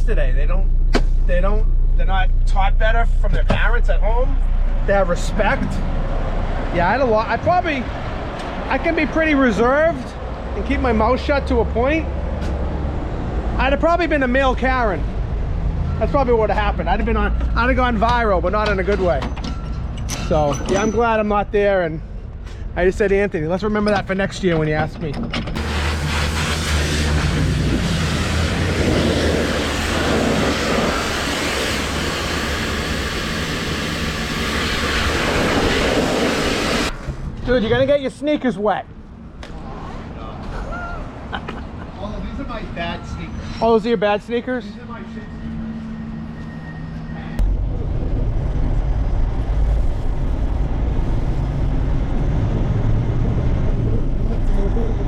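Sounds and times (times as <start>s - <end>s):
engine rumbling steadily: 0.0s - 43.3s, 44.3s - 55.0s.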